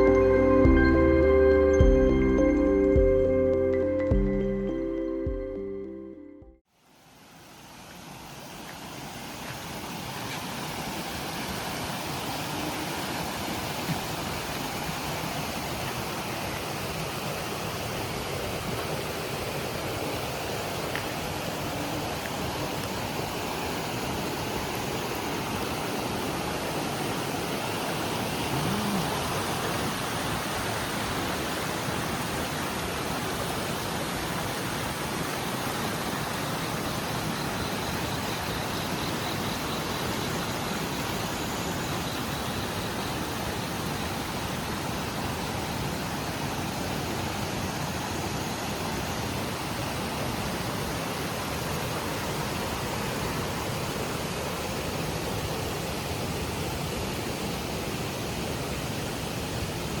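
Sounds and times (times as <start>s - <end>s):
waterfall rushing into river: 6.8s - 60.0s.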